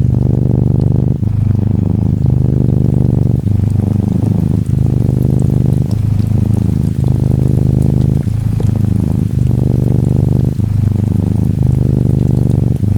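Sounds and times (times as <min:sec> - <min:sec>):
kitten purring: 0:00.0 - 0:12.9
light rain ticking: 0:00.0 - 0:12.9.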